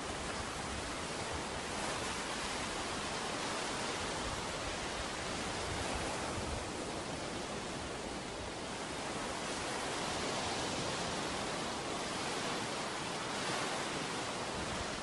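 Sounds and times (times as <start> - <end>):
surf waves washing on beach: 0.0 - 15.0.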